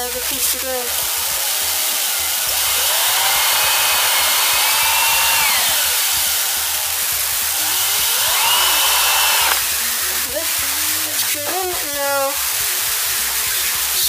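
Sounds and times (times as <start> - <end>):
electric drill whining: 0.0 - 14.0
steady loud hiss: 0.0 - 14.0.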